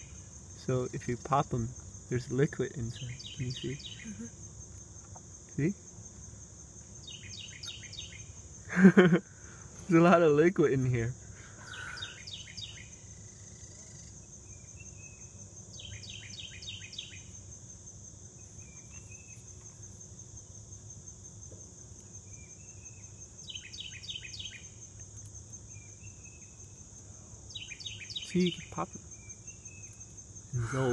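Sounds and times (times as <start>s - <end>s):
high-pitched insect trill: 0.0s - 30.9s.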